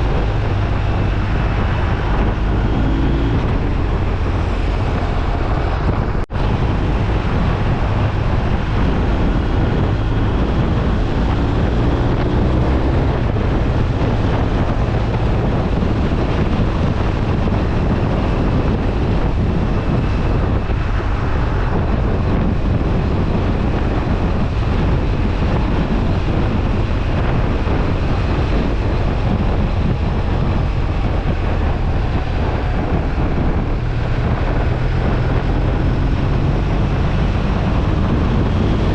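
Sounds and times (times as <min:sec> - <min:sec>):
motorcycle engine: 0:00.0 - 0:38.9
road noise: 0:00.0 - 0:38.9
wind rushing over microphone: 0:00.0 - 0:38.9.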